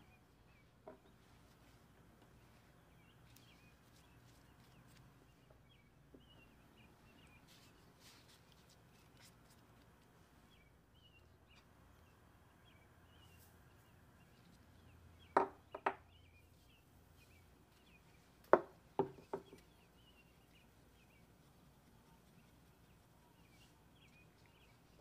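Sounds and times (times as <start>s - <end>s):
birdsong chirping: 0.0s - 25.0s.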